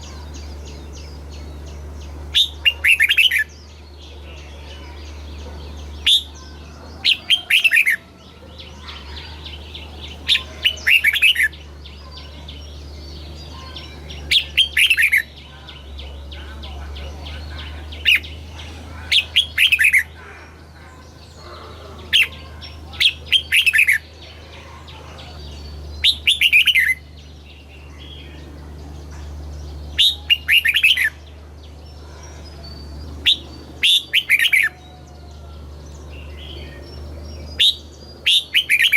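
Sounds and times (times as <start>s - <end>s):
bulbul singing: 0.0s - 38.9s
steady low hum: 0.0s - 38.9s.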